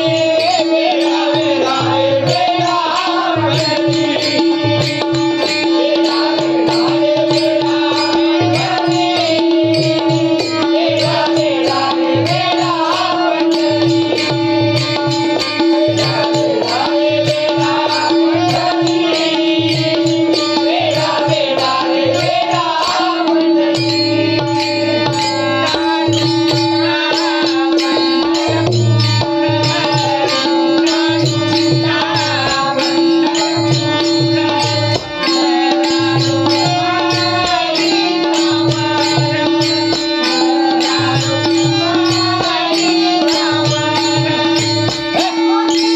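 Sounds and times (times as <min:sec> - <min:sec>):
person singing: 0:00.0 - 0:45.9.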